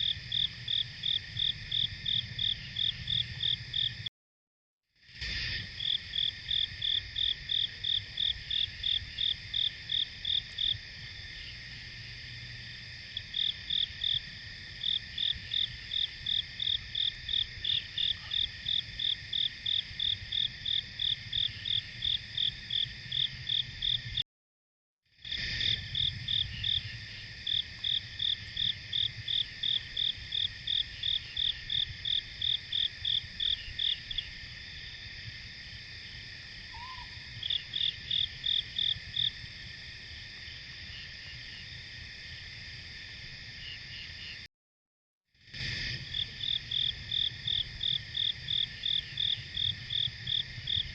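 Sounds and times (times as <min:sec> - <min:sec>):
crickets trilling: 0:00.0 - 0:04.1, 0:05.0 - 0:24.2, 0:25.2 - 0:44.5, 0:45.4 - 0:50.9
insect chirping: 0:00.0 - 0:04.1, 0:05.0 - 0:24.2, 0:25.2 - 0:44.5, 0:45.4 - 0:50.9.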